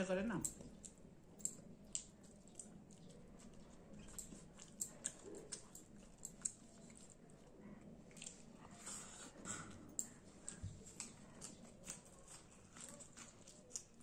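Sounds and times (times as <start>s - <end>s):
faint chewing: 0.4s - 14.0s.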